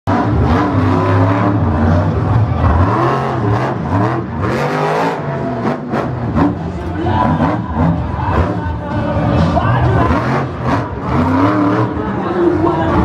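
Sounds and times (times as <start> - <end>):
truck engine revving hard: 0.1 - 13.0.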